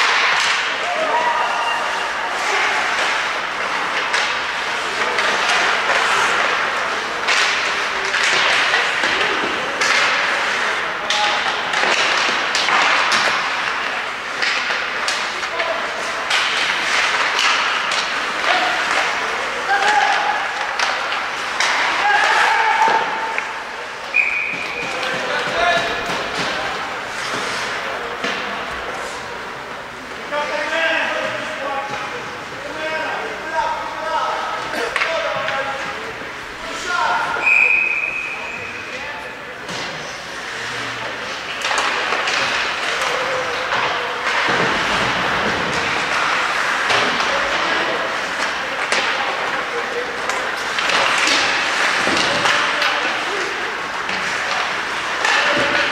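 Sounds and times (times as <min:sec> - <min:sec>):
skates on ice: 0:00.0 - 0:29.5, 0:39.6 - 0:55.9
hockey sticks and puck clacking: 0:00.0 - 0:55.9.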